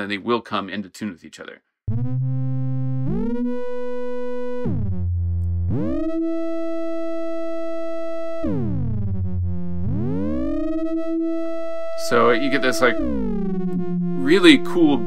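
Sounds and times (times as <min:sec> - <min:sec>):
synthesizer gliding detuned notes: 0:01.9 - 0:15.0.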